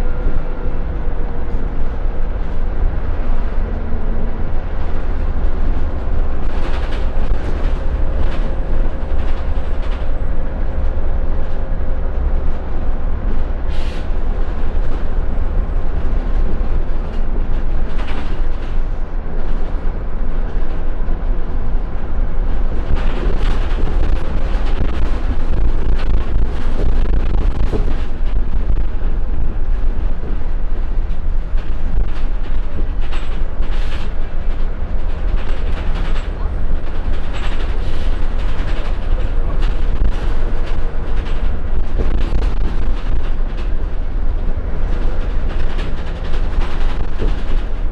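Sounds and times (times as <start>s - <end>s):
bus diesel engine rumbling: 0.0s - 47.9s
road noise: 0.0s - 47.9s
body rattles and knocks: 4.8s - 11.7s, 13.3s - 21.3s, 22.4s - 47.9s.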